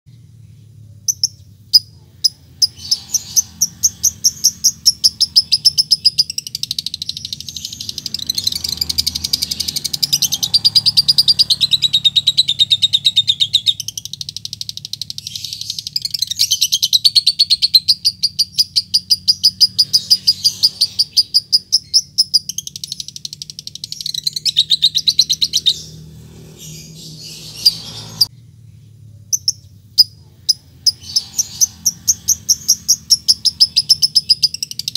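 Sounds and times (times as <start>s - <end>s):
bird chattering trill: 1.1s - 28.3s, 29.3s - 34.9s.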